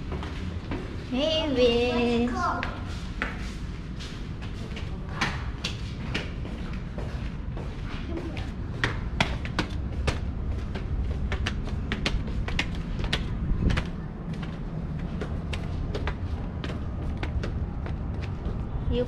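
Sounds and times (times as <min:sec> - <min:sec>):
footsteps on concrete stairs: 0:00.0 - 0:19.0.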